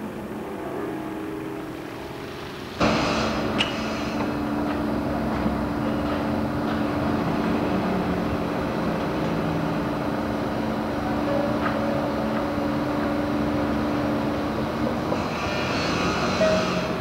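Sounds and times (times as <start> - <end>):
construction machinery rumbling: 0.0 - 17.0.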